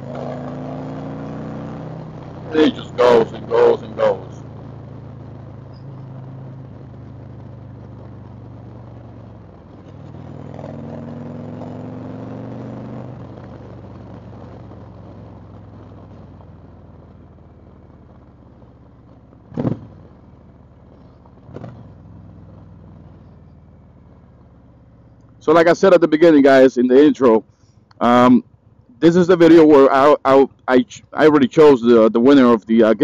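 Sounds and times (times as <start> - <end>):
motorcycle engine accelerating: 0.0 - 30.6.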